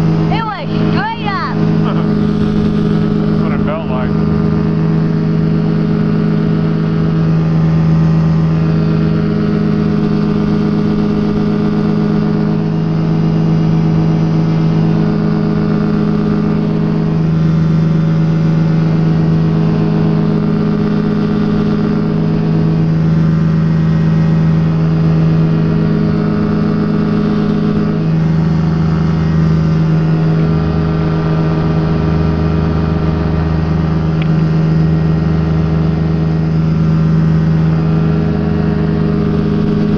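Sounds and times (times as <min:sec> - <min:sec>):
ultralight aircraft engine running: 0:00.0 - 0:39.9.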